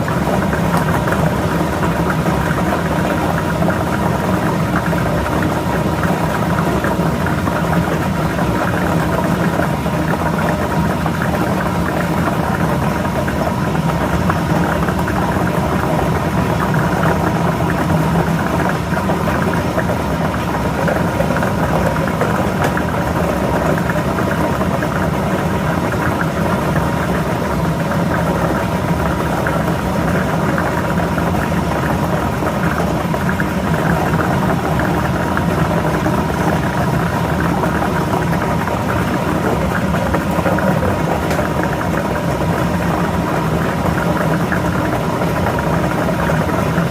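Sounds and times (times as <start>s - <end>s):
balls churning: 0.0s - 46.9s
lottery machine motor humming: 0.0s - 46.9s.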